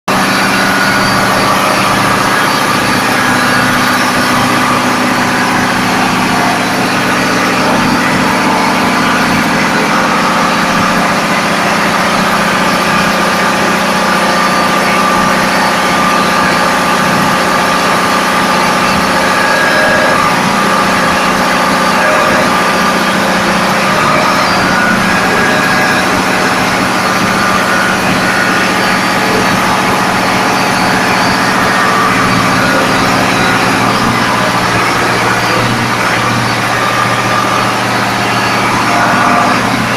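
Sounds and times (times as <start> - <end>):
diesel engines roaring: 0.1 - 39.9.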